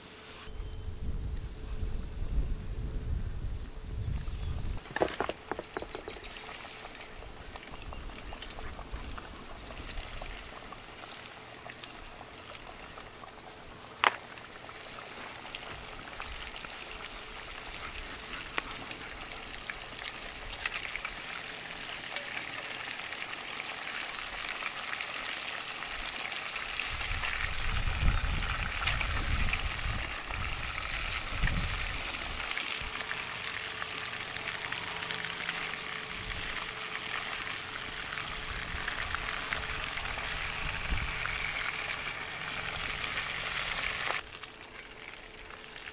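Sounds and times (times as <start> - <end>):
fish deep-frying in hot oil: 5.6 - 45.9.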